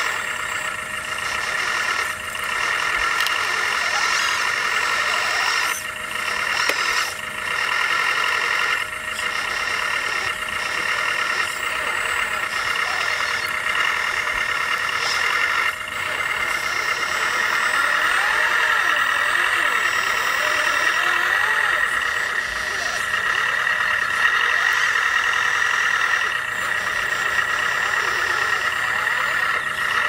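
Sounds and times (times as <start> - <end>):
toy motors and gears whirring: 0.0 - 30.0.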